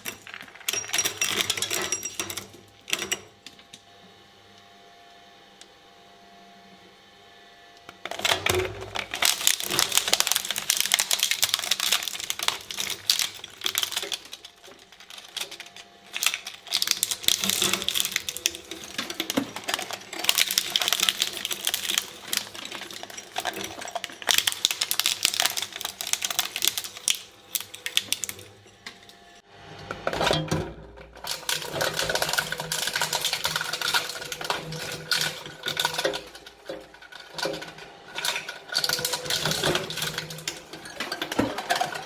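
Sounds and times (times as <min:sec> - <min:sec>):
shredder crunching material: 0:07.8 - 0:42.0.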